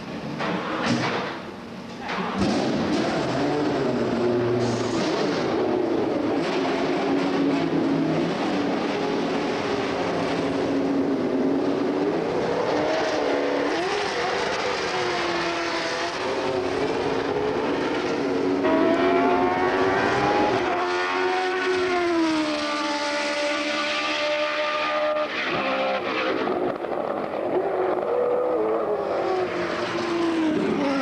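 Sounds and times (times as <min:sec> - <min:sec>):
racing car engine revving: 0:02.3 - 0:31.0.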